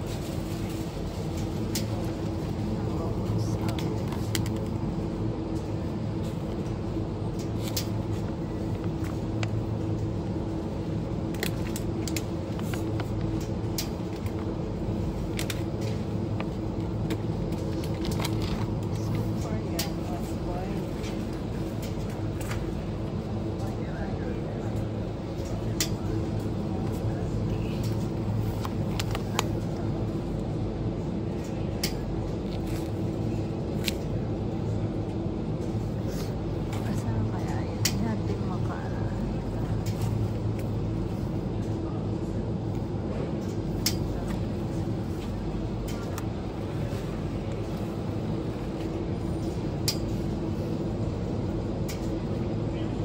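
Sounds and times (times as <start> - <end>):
refrigerated display cases humming: 0.0 - 53.0.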